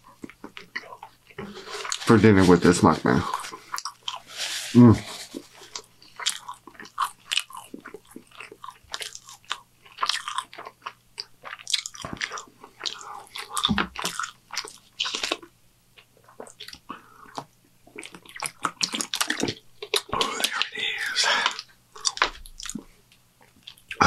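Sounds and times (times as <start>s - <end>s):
man chewing with mouth smacks: 0.0s - 2.1s, 3.2s - 4.3s, 5.3s - 24.0s.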